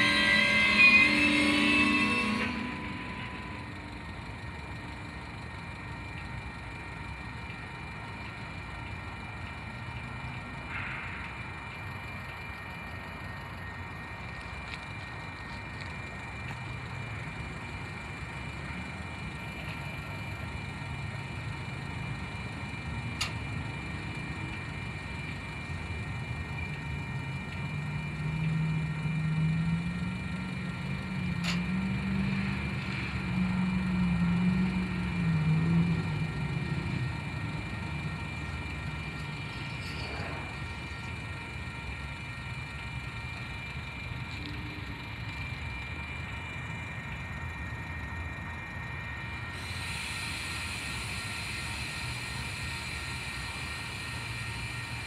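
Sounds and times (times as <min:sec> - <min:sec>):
freight train rumbling past: 0:00.0 - 0:55.0
low droning hum: 0:00.0 - 0:55.0.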